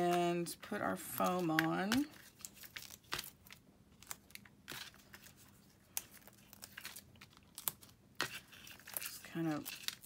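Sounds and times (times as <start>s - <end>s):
cardstock rustling and crinkling: 0.0s - 10.0s.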